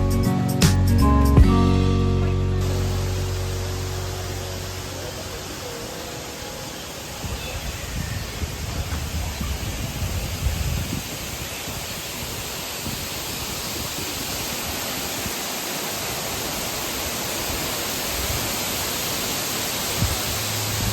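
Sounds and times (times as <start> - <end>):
waterfall roaring: 2.6 - 20.9.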